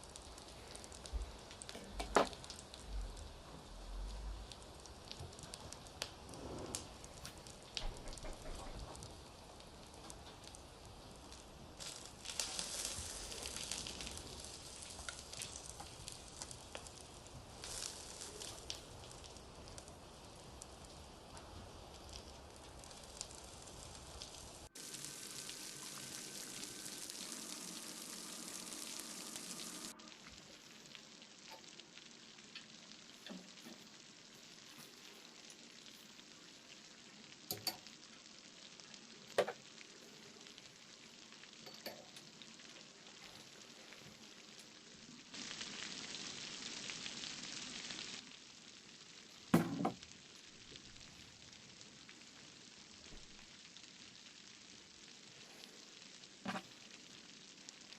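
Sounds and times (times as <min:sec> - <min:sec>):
food sizzling in a pan: 0:00.0 - 0:57.9.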